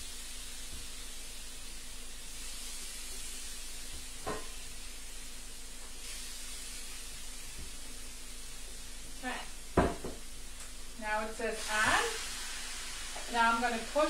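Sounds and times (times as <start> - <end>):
chicken sizzling on a grill: 0.0 - 14.0.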